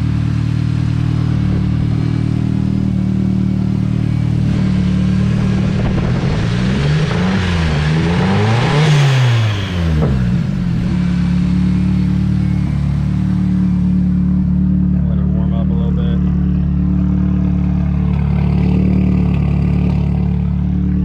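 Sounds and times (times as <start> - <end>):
misfiring car engine idling and revving: 0.0 - 21.0.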